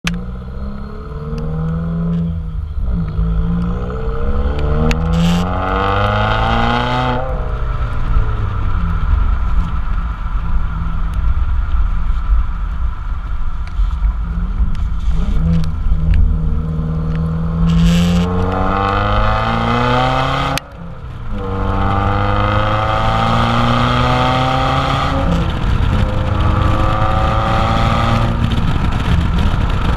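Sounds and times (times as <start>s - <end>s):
loud car exhaust revving: 0.0s - 11.1s, 14.2s - 29.9s.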